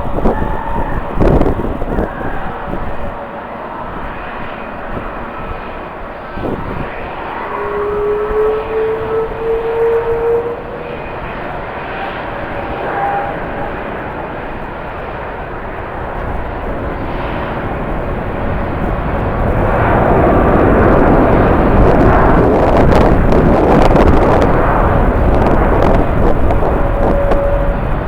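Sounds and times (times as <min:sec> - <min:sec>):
jet engine whine: 0:00.0 - 0:28.0
rushing noise: 0:00.0 - 0:28.0.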